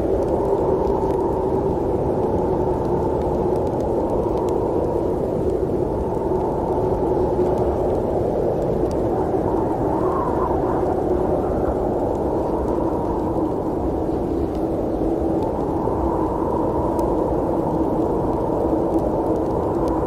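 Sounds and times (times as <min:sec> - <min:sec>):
faint ticks: 0:00.0 - 0:20.0.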